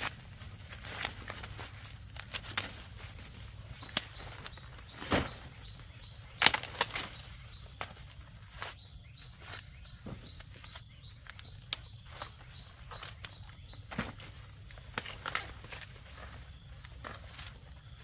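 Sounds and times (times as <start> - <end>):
dry corn plants snapping: 0.0 - 5.5, 6.2 - 8.8, 9.5 - 18.0
high insect drone: 0.0 - 18.0.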